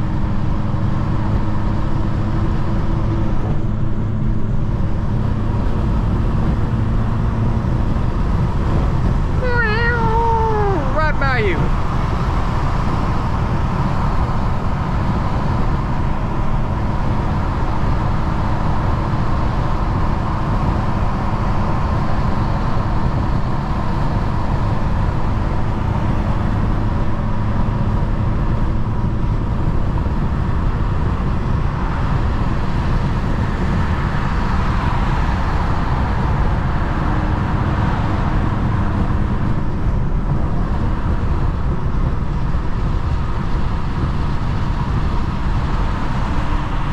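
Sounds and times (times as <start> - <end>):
car engine driving: 0.0 - 46.9
road noise inside car: 0.0 - 46.9.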